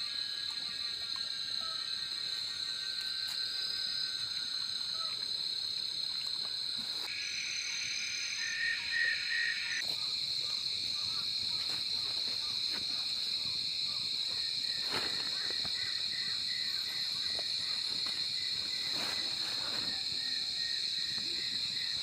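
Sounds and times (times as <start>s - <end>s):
insects and frogs trilling: 0.0s - 22.0s.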